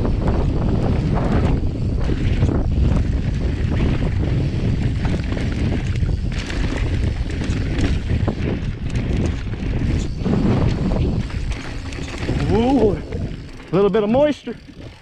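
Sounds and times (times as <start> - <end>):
bike clattering over rough ground: 0.0 - 15.0
wind buffeting microphone: 0.0 - 15.0.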